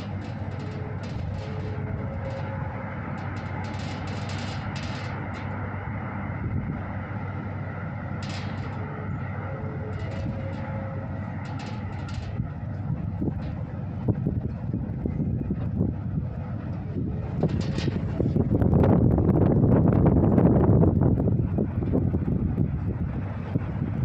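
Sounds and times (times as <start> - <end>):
low rumble of traffic and machinery: 0.0 - 24.0.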